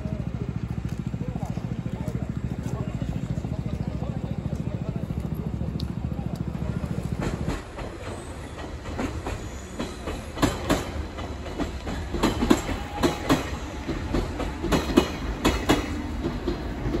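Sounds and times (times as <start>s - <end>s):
low train rumble: 0.0s - 17.0s
train wheels clacking over rail joints: 0.7s - 17.0s.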